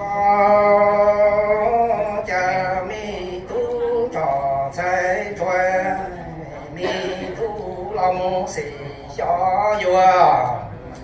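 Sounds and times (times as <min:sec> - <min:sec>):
man chanting into a microphone: 0:00.0 - 0:10.7.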